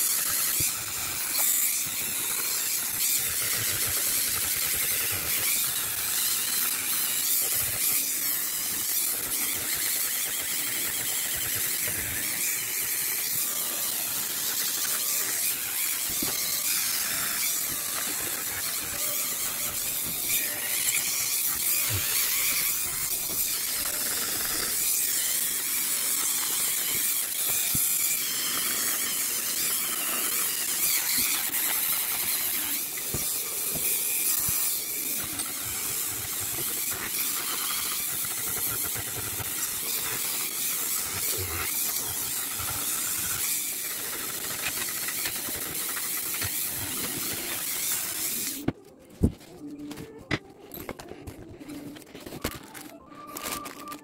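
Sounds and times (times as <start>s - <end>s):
rotary wire brush scouring wood: 0.0s - 54.0s.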